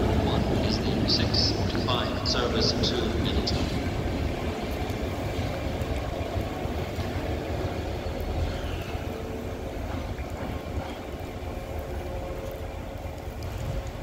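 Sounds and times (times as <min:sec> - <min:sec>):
diesel railcar engine rumble: 0:00.0 - 0:14.0.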